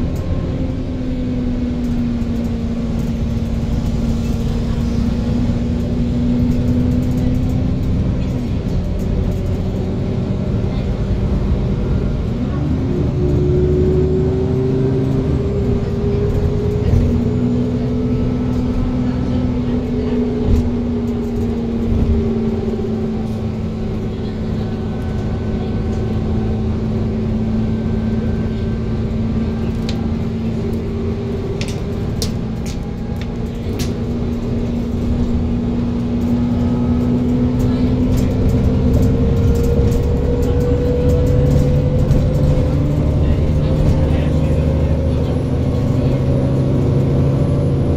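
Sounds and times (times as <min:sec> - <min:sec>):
bus engine drone with whine: 0:00.0 - 0:47.9
road rumble: 0:00.0 - 0:47.9.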